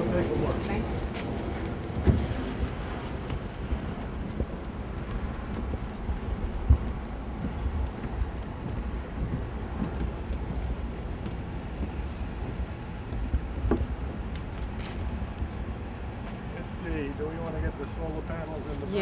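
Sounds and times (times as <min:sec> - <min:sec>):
wind buffeting microphone: 0:00.0 - 0:19.0
handling knocks and footsteps: 0:01.1 - 0:16.5.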